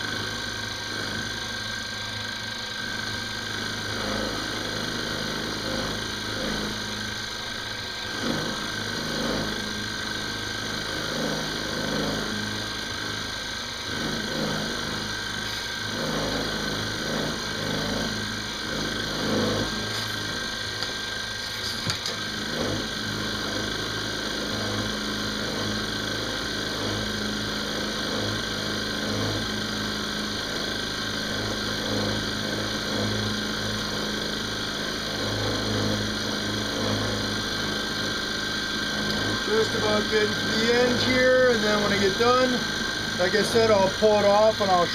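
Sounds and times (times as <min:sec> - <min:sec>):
cutter cutting metal: 0:00.0 - 0:44.9
milling machine motor hum: 0:00.0 - 0:44.9.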